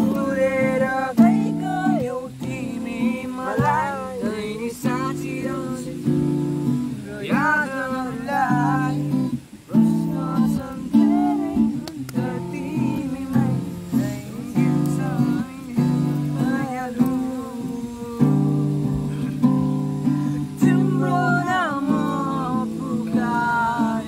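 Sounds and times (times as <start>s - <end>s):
acoustic guitar strumming: 0.0s - 24.0s
voices singing: 0.0s - 24.0s.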